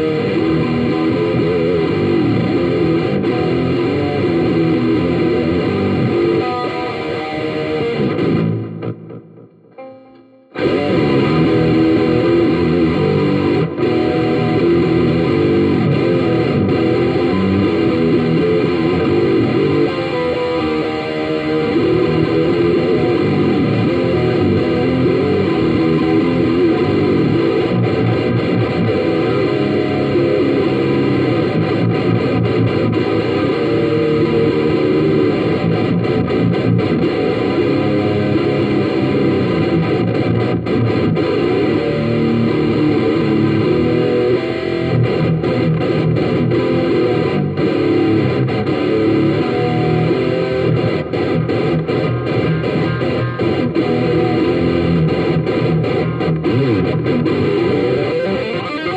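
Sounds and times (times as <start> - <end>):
distorted electric guitar: 0.0 - 58.9.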